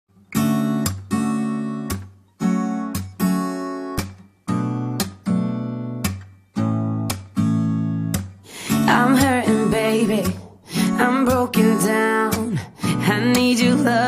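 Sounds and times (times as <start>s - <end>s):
acoustic guitar strumming chords: 0.2s - 14.0s.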